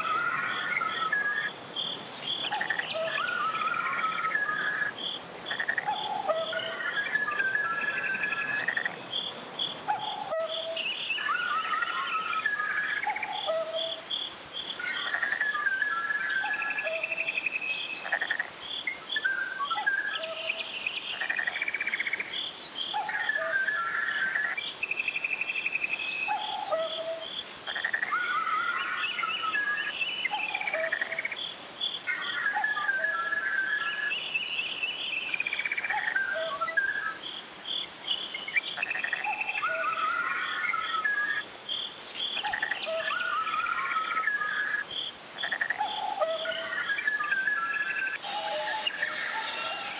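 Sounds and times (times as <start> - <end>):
birds warbling song: 0.0 - 49.9
faint high hiss: 0.0 - 49.9.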